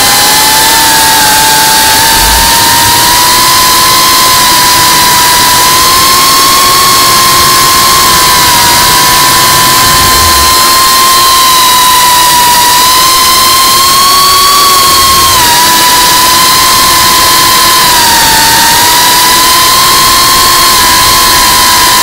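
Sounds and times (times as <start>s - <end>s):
drone motors whining: 0.0s - 22.0s
loud rushing hiss: 0.0s - 22.0s.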